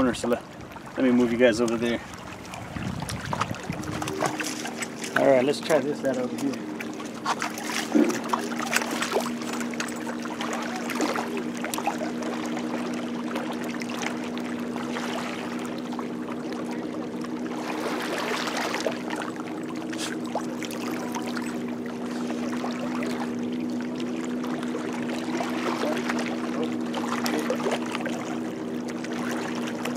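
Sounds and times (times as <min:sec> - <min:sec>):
motor hum: 0:00.0 - 0:29.9
water lapping against rocks: 0:00.0 - 0:29.9.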